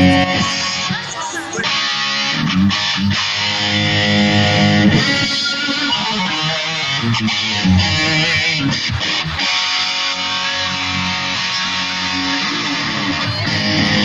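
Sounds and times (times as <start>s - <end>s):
electric guitar held notes: 0.0s - 14.0s.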